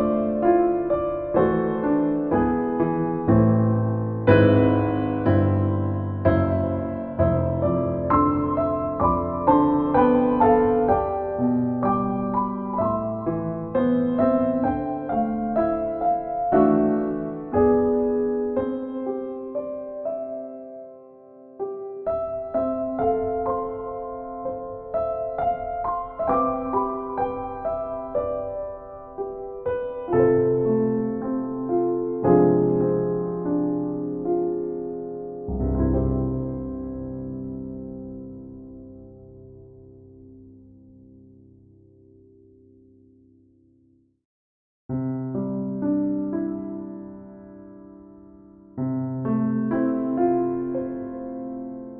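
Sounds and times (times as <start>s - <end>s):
solo piano music: 0.0s - 44.2s, 44.9s - 51.9s.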